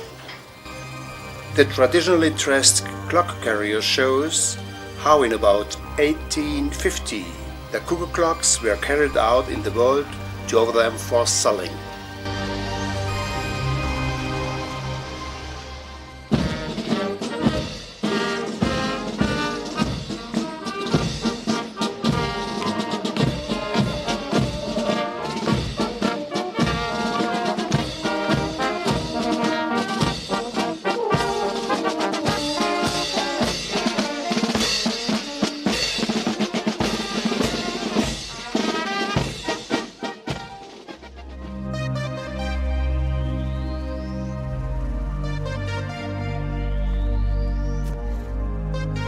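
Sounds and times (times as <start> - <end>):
brass and drums music: 0.0 - 49.0.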